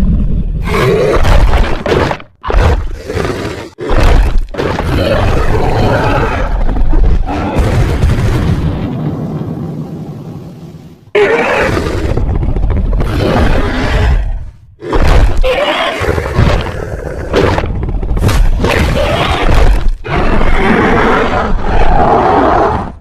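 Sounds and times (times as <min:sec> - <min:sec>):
dinosaur roar and growl: 0:00.0 - 0:08.0, 0:11.1 - 0:23.0.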